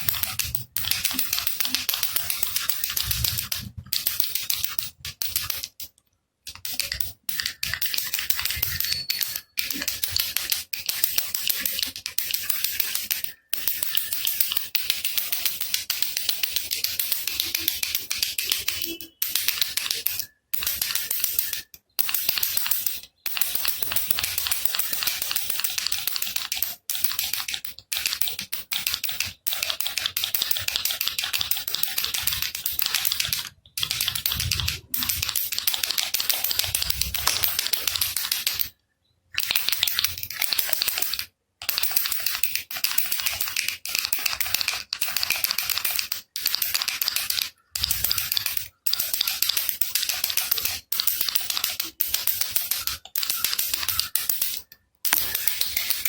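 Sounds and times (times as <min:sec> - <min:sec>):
baby rattle shaken: 0:06.6 - 0:38.7, 0:39.4 - 0:56.0.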